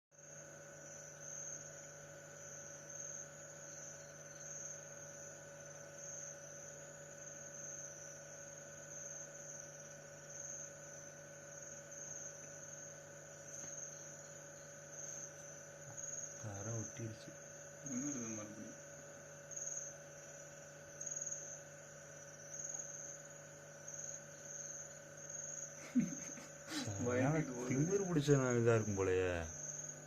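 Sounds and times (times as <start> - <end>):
crickets trilling: 0.2 - 30.0
low electrical hum: 0.2 - 30.0.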